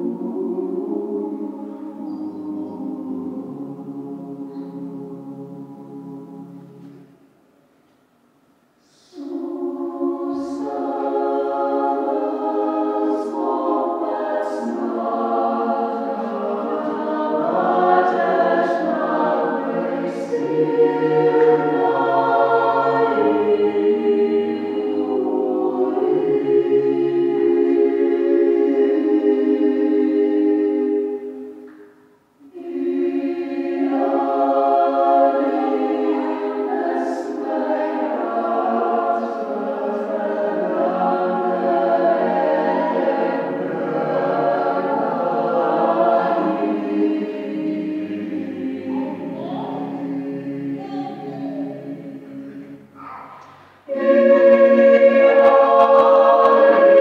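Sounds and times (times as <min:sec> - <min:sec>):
mixed choir singing: 0:00.0 - 0:07.2, 0:08.8 - 0:57.0.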